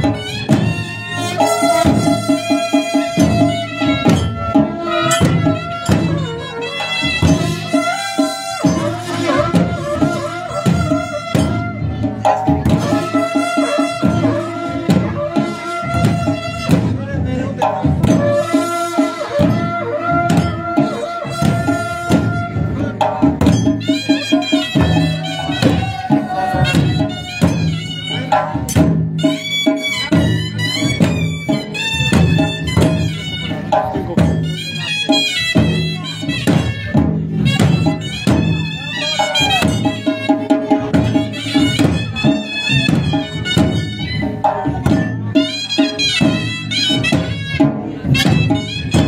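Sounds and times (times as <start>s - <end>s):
drums beating fast rhythm: 0.0s - 49.0s.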